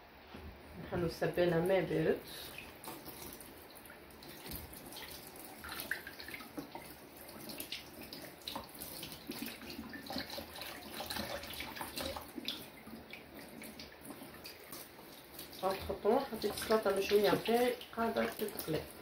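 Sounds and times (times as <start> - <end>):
water splashing: 1.5 - 19.0.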